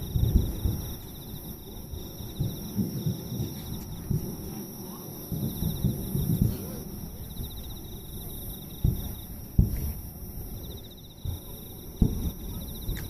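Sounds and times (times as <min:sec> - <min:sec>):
crickets trilling: 0:00.0 - 0:13.0
fireworks booming: 0:00.0 - 0:13.0.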